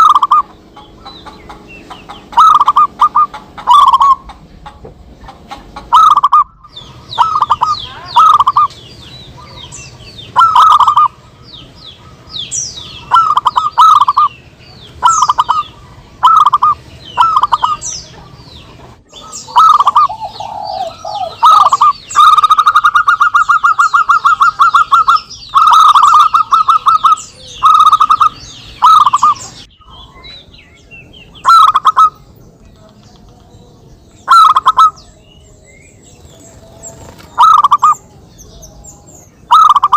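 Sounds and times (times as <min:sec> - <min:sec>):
doves cooing: 0:00.0 - 0:30.2, 0:31.3 - 0:33.4, 0:34.2 - 0:35.2, 0:36.2 - 0:38.7, 0:39.4 - 0:39.9.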